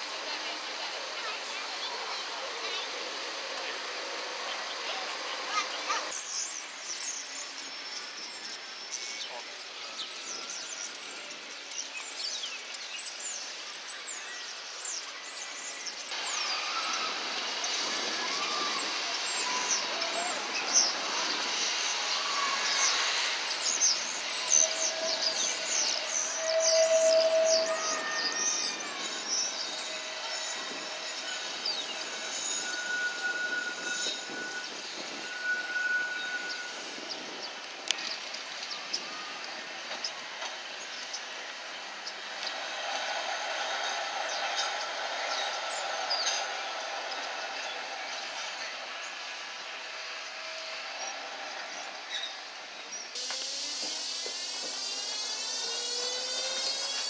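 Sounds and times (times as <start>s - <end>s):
tram wheels squealing on rails: 0.0s - 57.0s.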